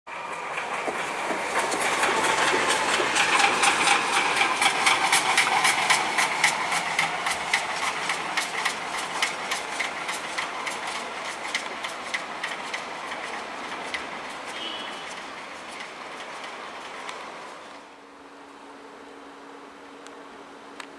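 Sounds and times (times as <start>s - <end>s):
steam locomotive chuffing: 0.1s - 17.8s.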